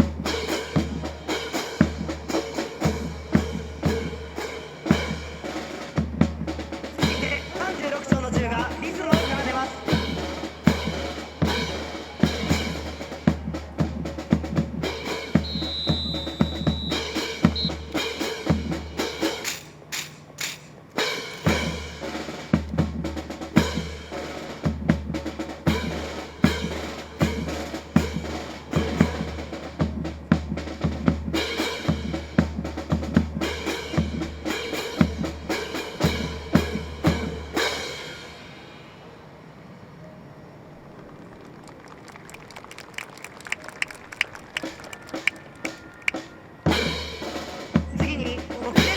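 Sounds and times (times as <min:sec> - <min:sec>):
snare and bass drums: 0:00.0 - 0:38.1, 0:41.8 - 0:48.9.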